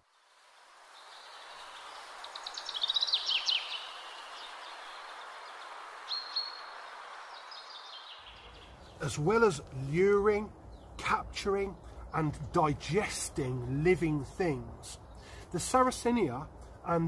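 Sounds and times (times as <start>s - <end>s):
outdoor background noise: 0.0s - 17.0s
small birds singing: 0.2s - 17.0s.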